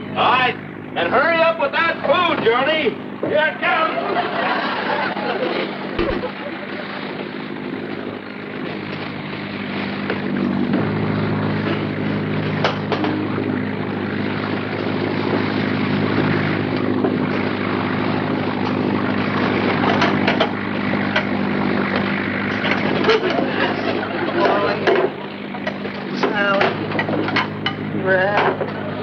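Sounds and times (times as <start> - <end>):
boat engine droning: 0.0 - 29.0.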